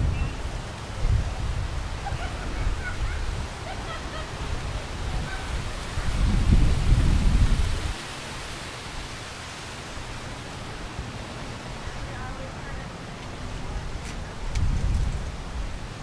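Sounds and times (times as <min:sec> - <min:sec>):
waves: 0:00.0 - 0:16.0
wind: 0:00.0 - 0:16.0
wind buffeting microphone: 0:00.0 - 0:16.0.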